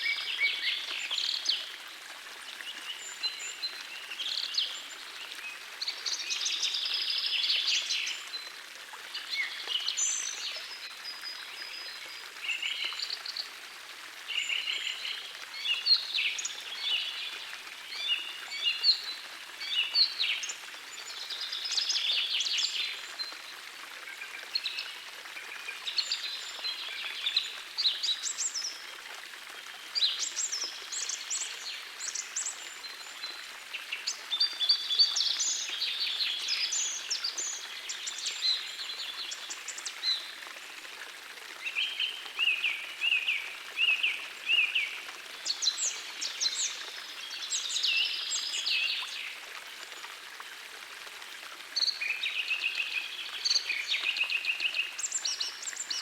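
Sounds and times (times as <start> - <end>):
gentle stream rushing: 0.0 - 56.0.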